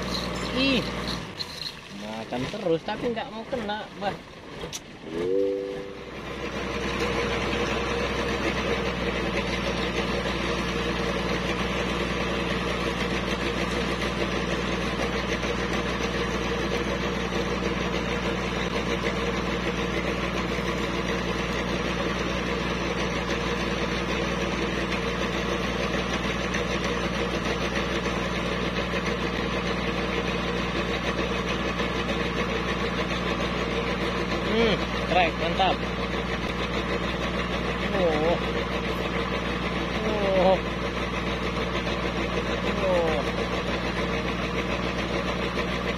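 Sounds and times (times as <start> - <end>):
dredging rig engine running: 0.0 - 45.9.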